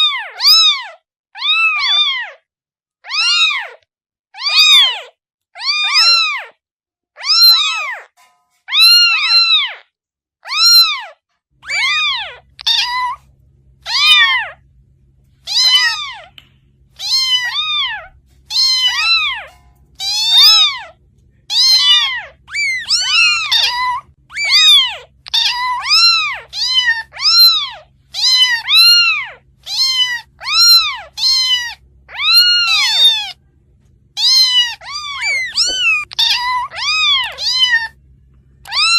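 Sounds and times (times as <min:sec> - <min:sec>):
kitten meowing: 0:00.0 - 0:02.4, 0:03.1 - 0:03.8, 0:04.4 - 0:06.5, 0:07.2 - 0:08.1, 0:08.7 - 0:09.8, 0:10.5 - 0:14.6, 0:15.4 - 0:33.4, 0:34.2 - 0:38.0, 0:38.6 - 0:38.9.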